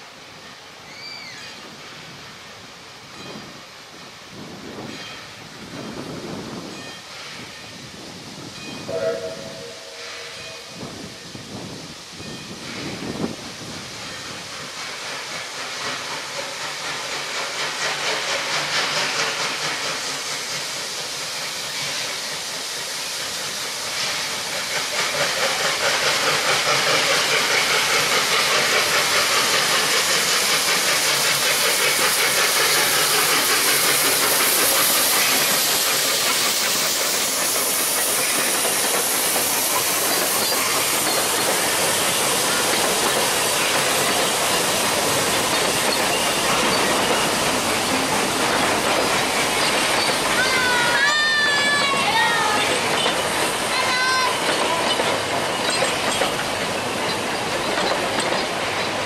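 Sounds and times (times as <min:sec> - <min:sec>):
steam locomotive hissing and chuffing: 0:00.0 - 0:59.0.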